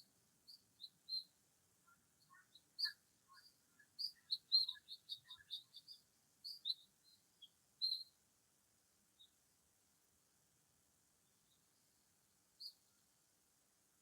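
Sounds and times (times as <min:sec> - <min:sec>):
small birds chirping: 0:00.0 - 0:08.4, 0:09.0 - 0:09.7, 0:11.1 - 0:14.0.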